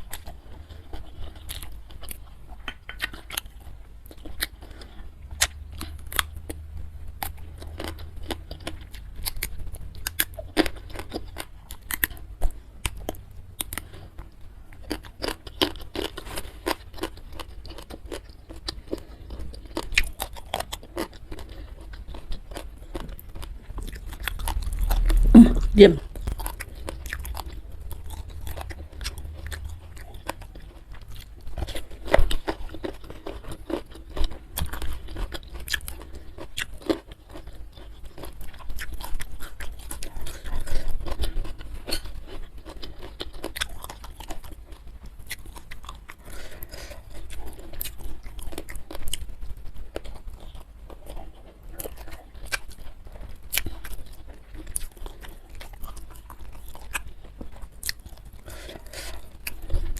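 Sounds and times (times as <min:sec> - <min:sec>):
chewing with crunches: 0:00.0 - 0:59.9.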